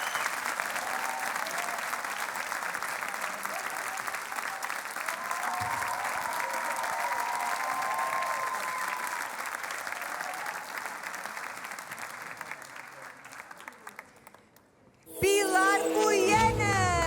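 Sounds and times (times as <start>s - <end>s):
audience applauding and cheering: 0.0s - 14.3s.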